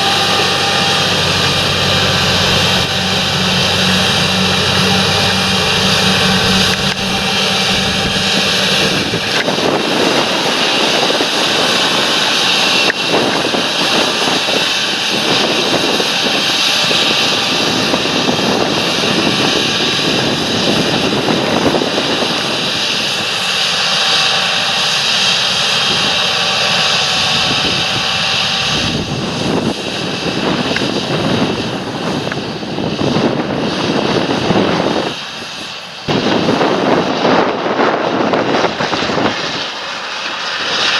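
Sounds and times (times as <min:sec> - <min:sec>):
tractor diesel engine under load: 0:00.0 - 0:37.6.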